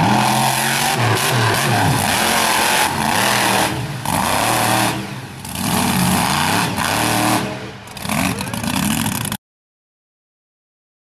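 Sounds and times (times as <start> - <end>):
truck engine revving hard: 0.0 - 9.4.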